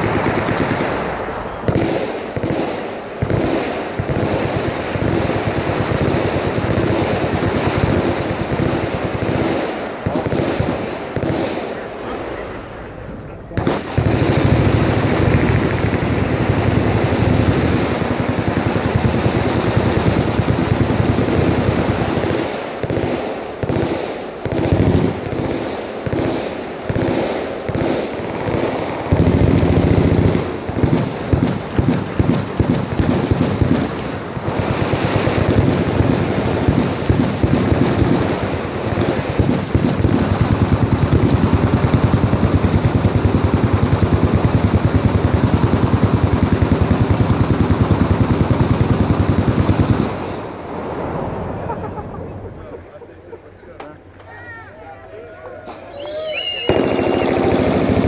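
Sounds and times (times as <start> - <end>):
machine guns firing: 0.0 - 12.7, 13.4 - 50.5, 56.1 - 58.0.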